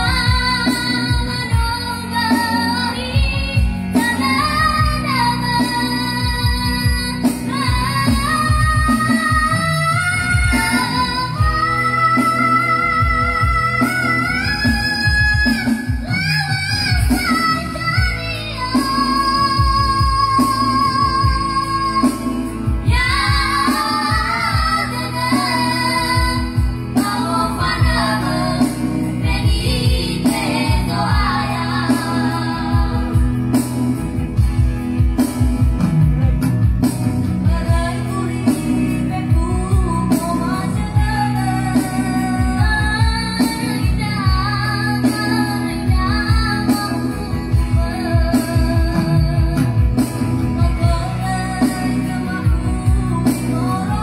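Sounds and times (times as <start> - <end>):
instrumental accompaniment with beat: 0.0 - 54.0.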